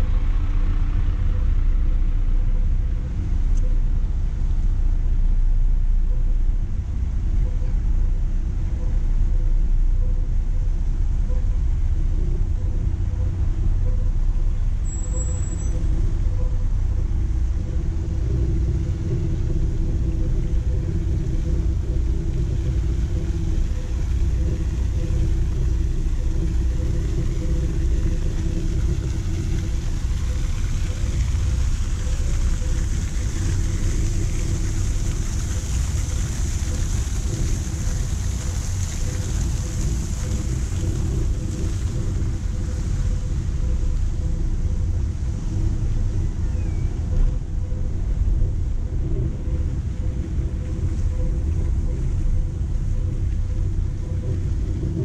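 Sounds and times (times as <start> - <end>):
constant hum: 0.0 - 55.0
low rumble of road traffic: 0.0 - 55.0.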